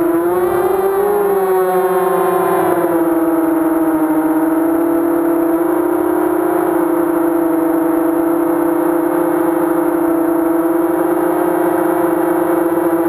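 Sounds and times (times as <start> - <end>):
drone motors humming: 0.0 - 13.0.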